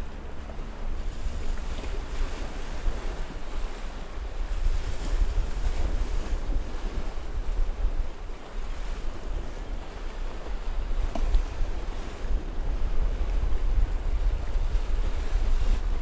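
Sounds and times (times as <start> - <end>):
waves breaking: 0.0 - 16.0
wind gusting on microphone: 0.0 - 16.0.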